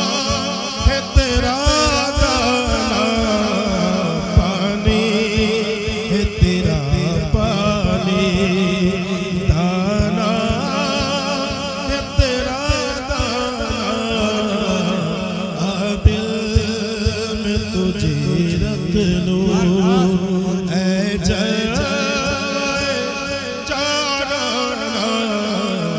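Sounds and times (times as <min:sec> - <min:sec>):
man singing into a microphone: 0:00.0 - 0:25.9.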